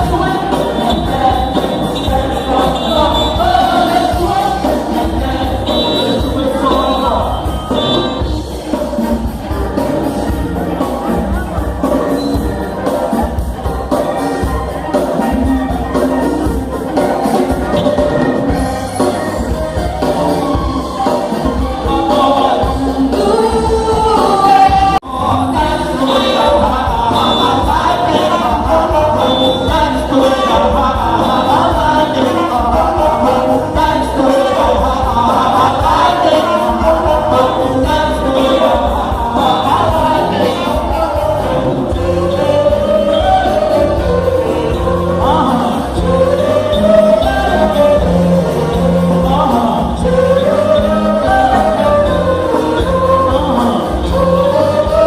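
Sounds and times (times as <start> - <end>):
band playing a song: 0.0 - 55.0
bass line: 0.0 - 55.0
voices singing: 0.0 - 55.0.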